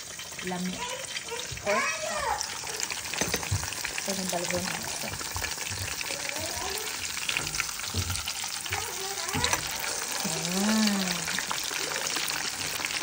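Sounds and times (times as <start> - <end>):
meat sizzling with crackling pops: 0.0 - 13.0.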